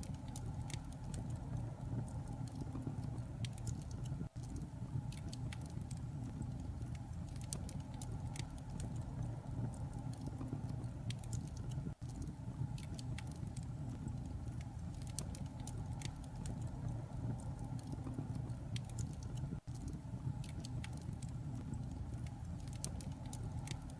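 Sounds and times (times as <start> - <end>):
light crackling ticks: 0.0 - 23.9
low rumbling hiss: 0.0 - 23.9.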